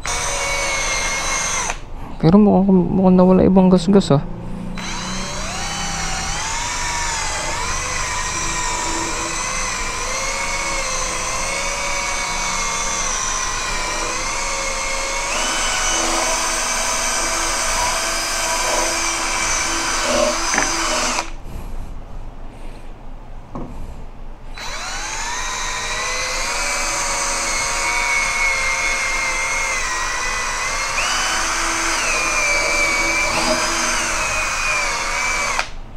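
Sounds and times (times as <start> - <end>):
cordless drill motor whine: 0.0 - 1.9, 4.7 - 21.4, 24.5 - 35.8.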